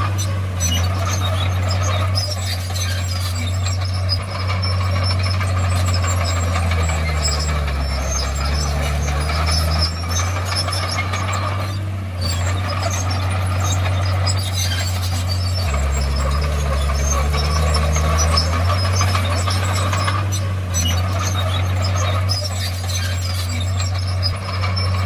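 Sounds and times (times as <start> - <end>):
bulldozer diesel engine: 0.0 - 25.0
metallic squeaks and clatter: 0.0 - 25.0.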